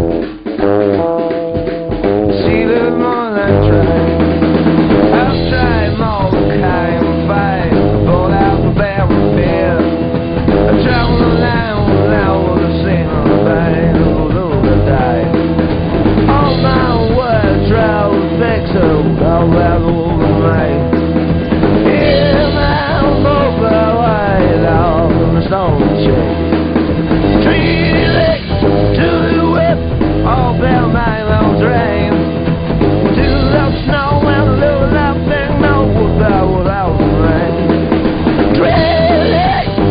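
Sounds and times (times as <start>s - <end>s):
rock music with drums and guitar: 0.0s - 39.9s.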